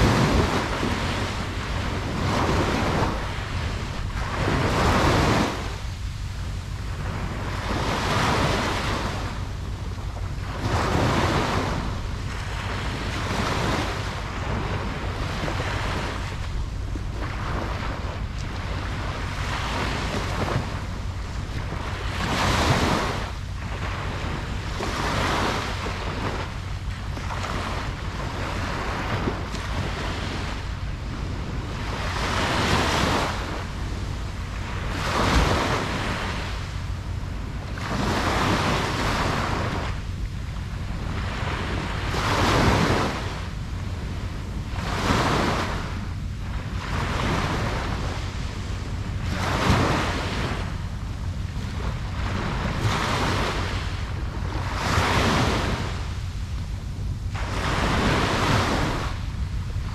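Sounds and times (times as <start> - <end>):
ocean waves breaking: 0.0 - 59.9
wind rumble on microphone: 0.0 - 59.9.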